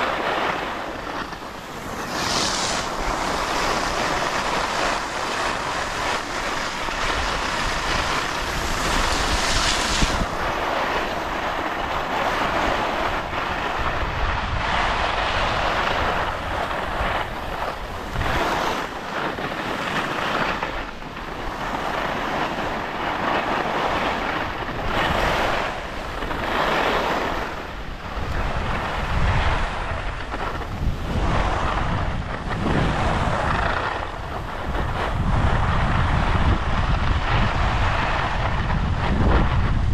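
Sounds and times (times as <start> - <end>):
skis scraping on snow: 0.0 - 39.9
wind on microphone: 0.0 - 39.9.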